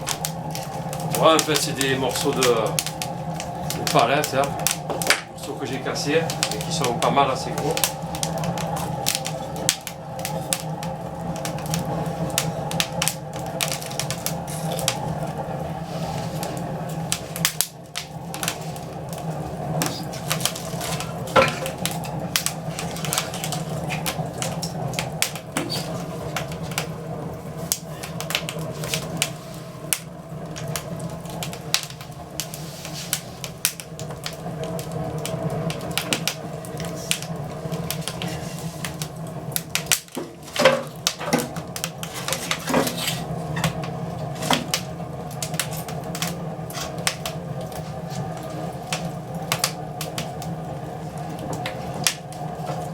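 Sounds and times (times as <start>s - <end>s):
steady low hum: 0.0s - 52.9s
wood fire crackling: 0.0s - 52.9s.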